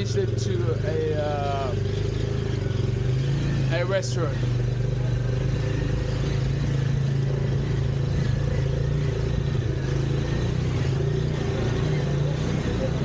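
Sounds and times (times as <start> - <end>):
motor rickshaw engine droning: 0.0 - 13.0.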